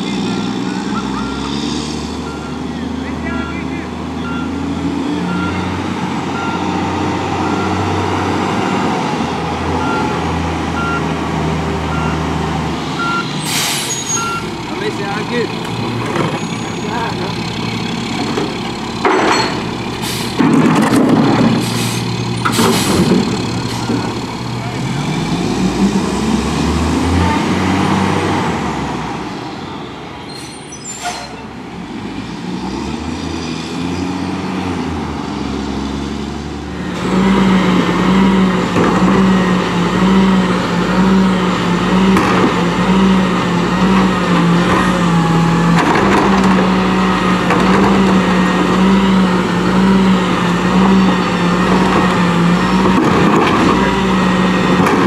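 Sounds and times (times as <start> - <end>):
garbage truck engine droning: 0.0 - 55.0
garbage truck engine revving: 0.0 - 55.0.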